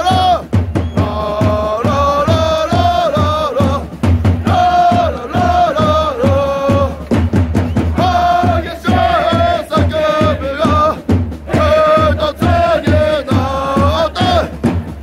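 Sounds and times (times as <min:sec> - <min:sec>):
chant-style singing: 0:00.0 - 0:14.9
steady drumbeat: 0:00.0 - 0:15.0.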